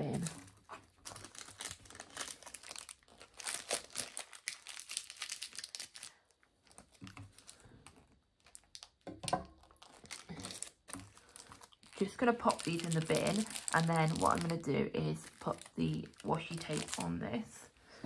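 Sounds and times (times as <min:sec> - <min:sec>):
rubbish crinkling and crumpling: 0:00.0 - 0:17.6.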